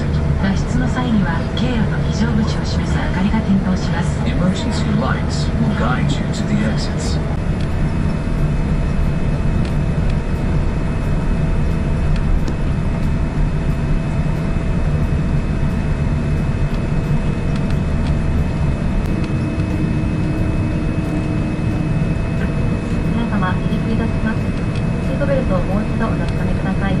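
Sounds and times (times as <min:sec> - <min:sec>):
airliner cabin rumble: 0:00.0 - 0:27.0
faint steady whining tones: 0:00.0 - 0:27.0
low tone: 0:00.0 - 0:27.0.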